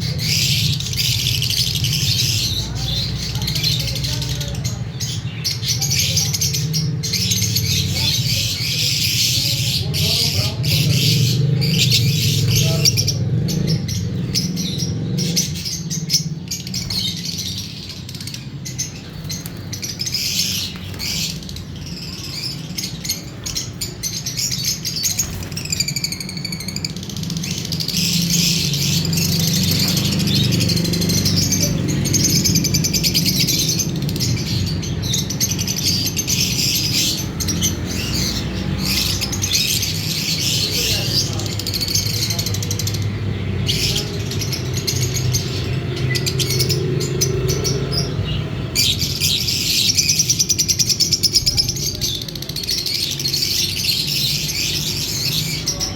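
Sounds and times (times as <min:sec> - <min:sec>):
lovebirds chirping and chattering: 0:00.0 - 0:55.9.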